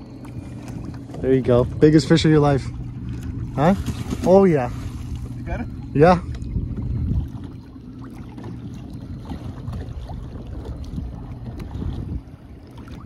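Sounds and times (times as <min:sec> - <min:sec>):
waves lapping against hull: 0:00.0 - 0:13.0
wind buffeting microphone: 0:00.0 - 0:13.0.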